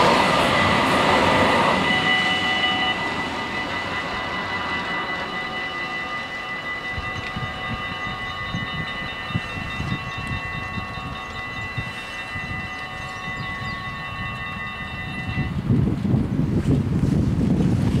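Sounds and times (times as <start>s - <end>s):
level crossing warning bells: 0.0s - 15.8s
wind buffeting microphone: 0.0s - 18.0s.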